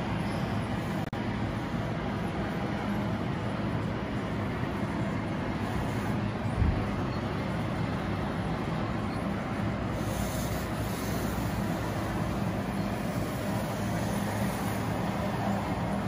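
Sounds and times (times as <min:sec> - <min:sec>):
model vehicle mechanical hum: 0:00.0 - 0:16.0
noisy background bed: 0:00.0 - 0:16.0.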